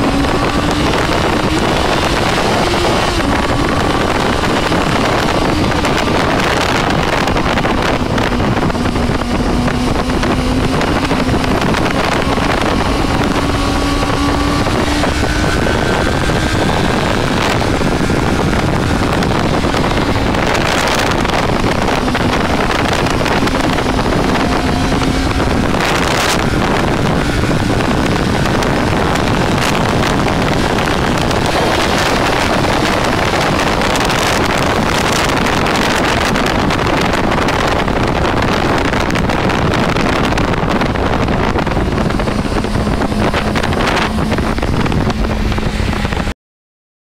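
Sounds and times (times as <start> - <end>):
motorcycle engine running: 0.0 - 46.3
wind rushing over microphone: 0.0 - 46.4.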